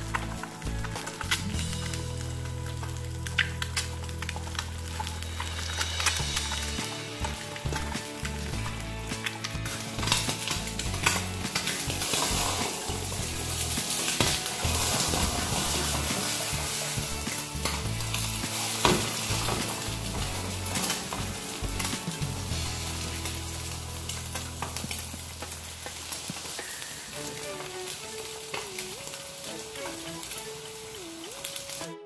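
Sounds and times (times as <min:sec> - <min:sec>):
eggs sizzling in a pan: 0:00.0 - 0:31.9.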